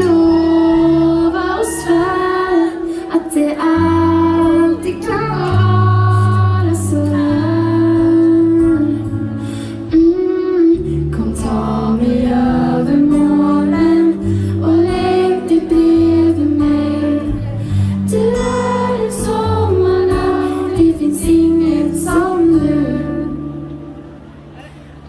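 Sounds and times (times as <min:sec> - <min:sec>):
pop band playing live: 0:00.0 - 0:23.7
lead vocal singing: 0:00.0 - 0:24.0
low bass notes: 0:03.7 - 0:25.0.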